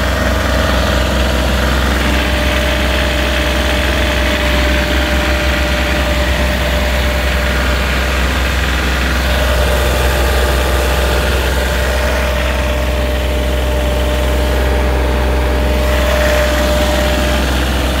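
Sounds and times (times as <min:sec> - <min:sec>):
diesel engine rumbling with whine: 0:00.0 - 0:18.0.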